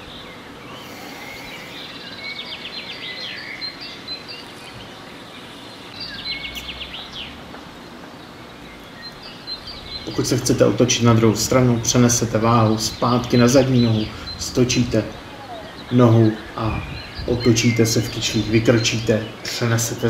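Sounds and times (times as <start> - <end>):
outdoor background hiss: 0.0 - 20.0
songbird trilling: 0.0 - 20.0.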